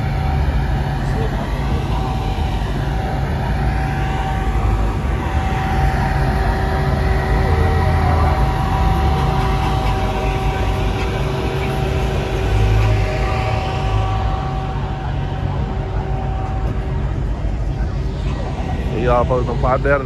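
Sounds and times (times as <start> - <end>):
engines idling with deep rumble: 0.0 - 20.0
steady whine: 0.0 - 20.0.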